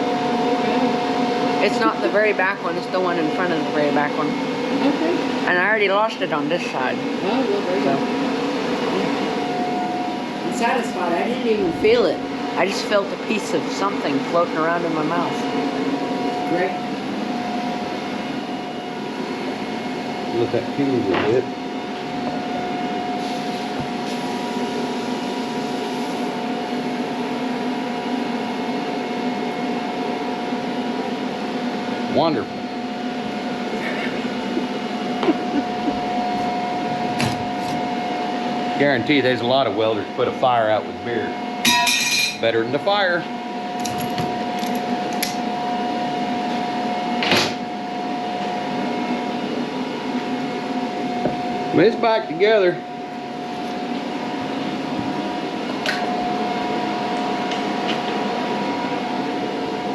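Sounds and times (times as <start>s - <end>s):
mechanical drone with high whine: 0.0s - 59.9s.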